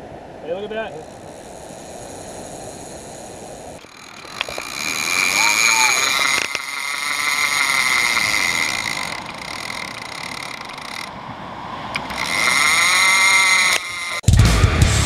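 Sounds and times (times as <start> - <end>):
fishing reel ratchet buzzing: 0.9 - 11.2, 11.9 - 14.3.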